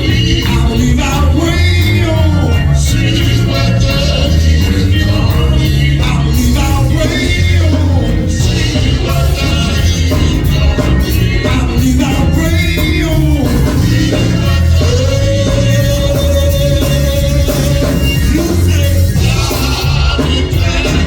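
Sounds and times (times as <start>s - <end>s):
band with heavy bass: 0.0s - 21.0s
voices singing gospel: 0.0s - 21.0s.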